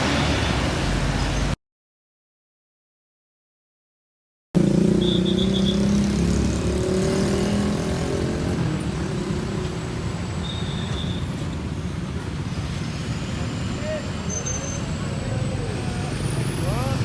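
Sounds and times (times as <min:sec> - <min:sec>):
traffic noise: 0:00.0 - 0:01.6, 0:04.6 - 0:17.0.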